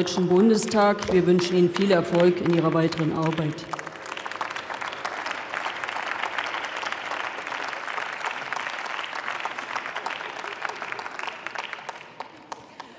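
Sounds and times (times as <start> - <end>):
crowd clapping: 0.0 - 12.9.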